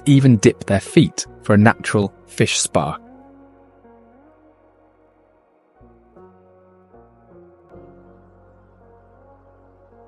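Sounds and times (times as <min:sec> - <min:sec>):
ambient synth music: 0:00.0 - 0:10.0.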